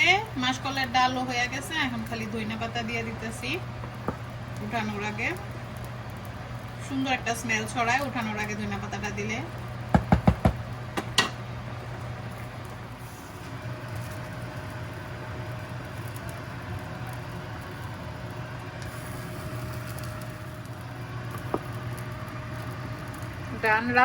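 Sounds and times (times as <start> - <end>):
kitchen background hiss: 0.0 - 24.0.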